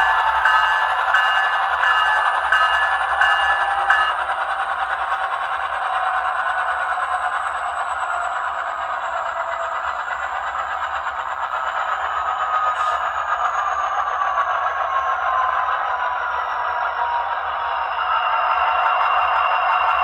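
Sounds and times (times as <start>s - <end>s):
model diesel locomotive engine: 0.0s - 20.0s.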